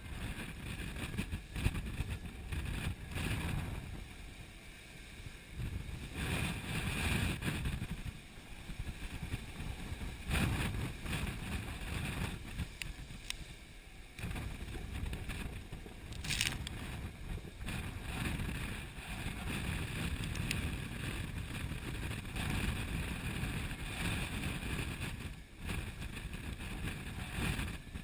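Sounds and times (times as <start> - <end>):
water splashing along hull: 0.0 - 28.0
wind buffeting microphone: 0.0 - 28.0.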